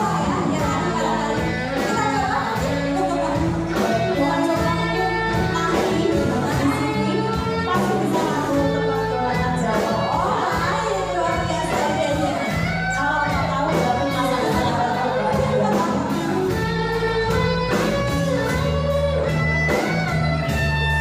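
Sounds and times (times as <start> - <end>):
woman singing: 0.0 - 20.0
drum kit: 0.0 - 21.0
electric guitars: 0.0 - 21.0.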